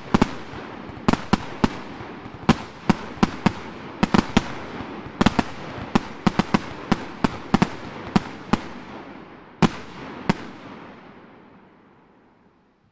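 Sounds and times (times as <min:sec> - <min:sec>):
fireworks bangs: 0:00.0 - 0:11.8.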